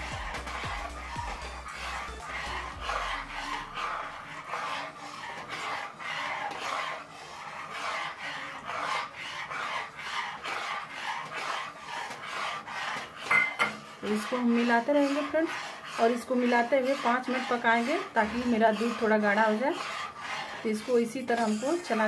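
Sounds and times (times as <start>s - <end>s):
spoon scraping a pan: 0.0s - 22.0s.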